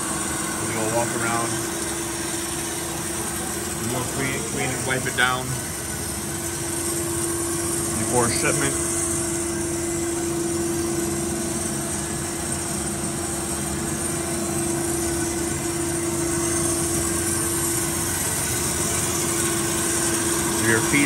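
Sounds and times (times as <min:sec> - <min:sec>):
hydraulic unit humming and whining: 0:00.0 - 0:21.0.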